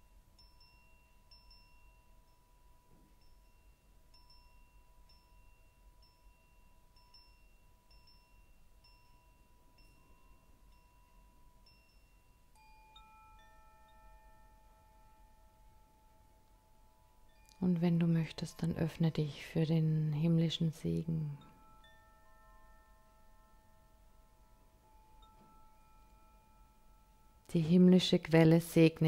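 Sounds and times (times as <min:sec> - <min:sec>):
faint chime-like music: 0:00.0 - 0:29.0.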